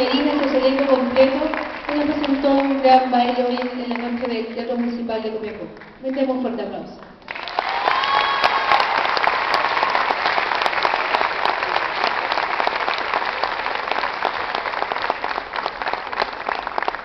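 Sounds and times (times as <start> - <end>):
audience applauding: 0.0 - 4.4, 7.2 - 17.0.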